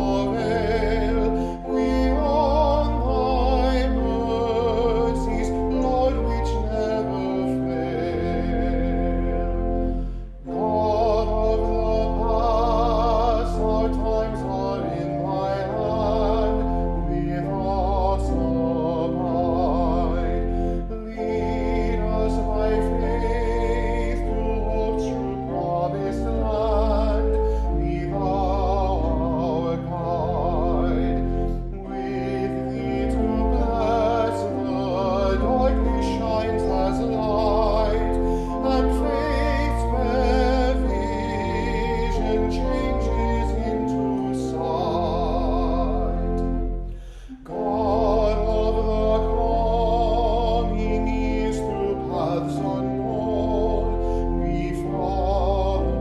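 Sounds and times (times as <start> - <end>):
person singing with vibrato: 0.0 - 56.0
sustained low accompaniment notes: 0.0 - 56.0.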